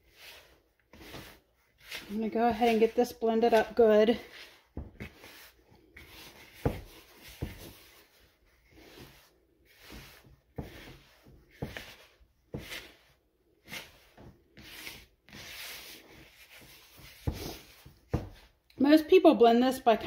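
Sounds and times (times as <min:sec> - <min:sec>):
hands scraping gritty powder: 0:00.0 - 0:18.3.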